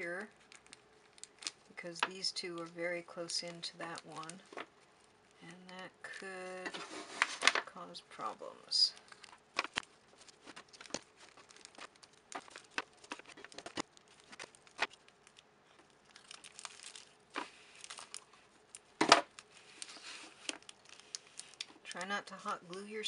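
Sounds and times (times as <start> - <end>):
foil wrappers crinkling: 0.0 - 5.4, 8.2 - 23.0.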